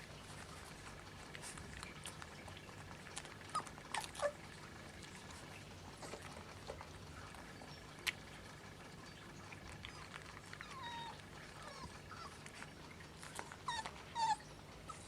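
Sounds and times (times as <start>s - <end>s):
puppies squeaking and whimpering: 1.5s - 6.2s, 6.9s - 15.0s.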